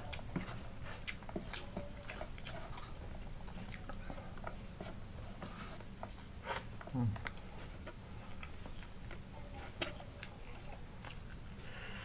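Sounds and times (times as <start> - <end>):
person chewing: 0.0 - 11.4.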